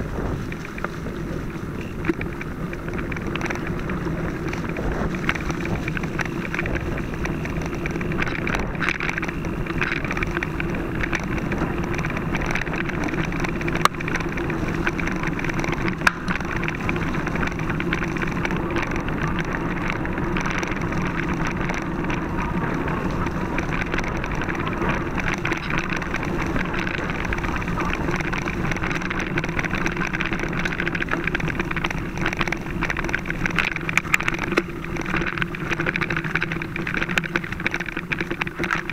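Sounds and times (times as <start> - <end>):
bike tyres rumbling on dirt trail: 0.0 - 38.9.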